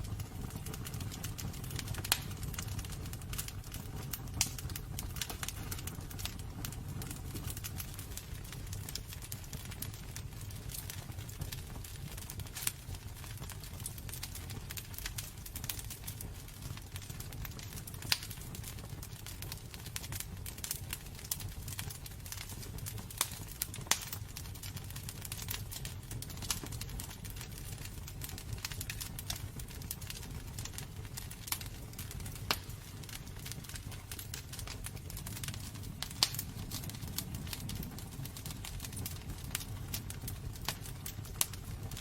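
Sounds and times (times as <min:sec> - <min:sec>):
burning wood popping: 0:00.0 - 0:42.0
fire crackling: 0:00.0 - 0:42.0
low rumble of flames: 0:00.0 - 0:42.0.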